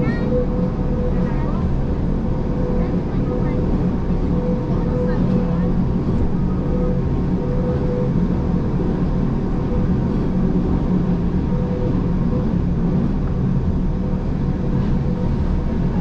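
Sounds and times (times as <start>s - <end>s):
faint higher hum: 0.0s - 16.0s
train low rumble: 0.0s - 16.0s.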